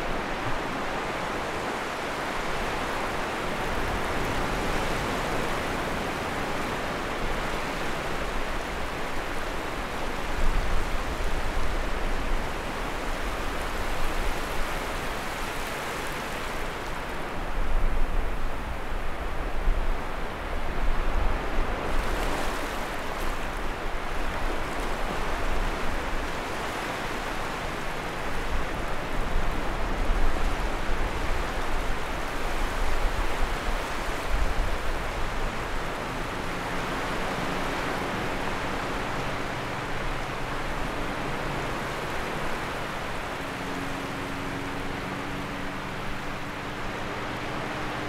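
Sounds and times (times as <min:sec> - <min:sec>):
sea waves washing onto shore: 0:00.0 - 0:48.0.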